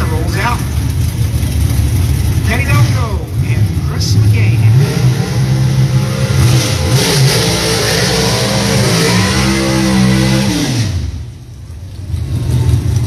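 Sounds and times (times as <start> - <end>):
racing engine revving: 0.0 - 13.0.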